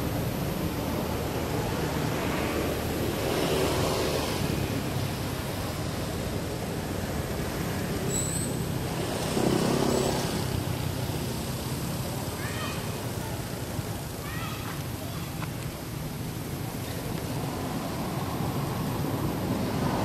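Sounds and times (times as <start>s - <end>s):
distant road traffic: 0.0s - 20.0s.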